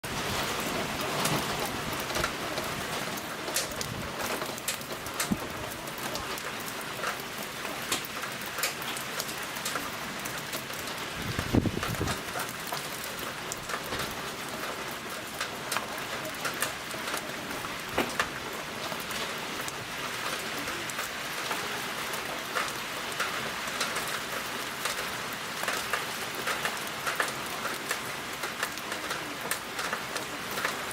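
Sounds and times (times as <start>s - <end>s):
heavy rain pouring: 0.0s - 30.9s
raindrops tapping surfaces: 0.1s - 30.9s.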